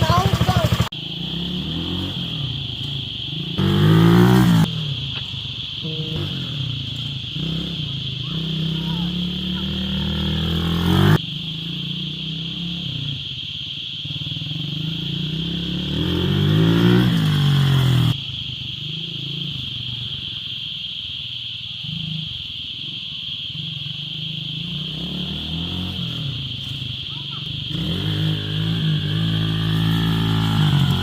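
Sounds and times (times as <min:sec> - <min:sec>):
small engine revving: 0:00.0 - 0:20.5, 0:23.5 - 0:31.0.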